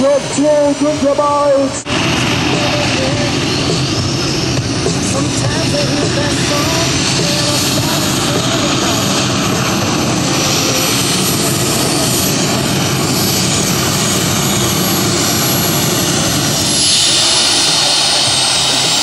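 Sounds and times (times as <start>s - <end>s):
tractor engine running hard: 0.0s - 19.0s.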